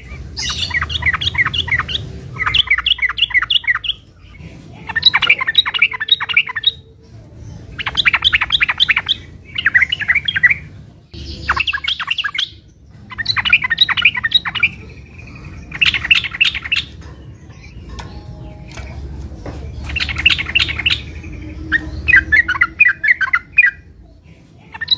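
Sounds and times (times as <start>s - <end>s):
bird singing rapid chattering phrases: 0.0s - 24.9s.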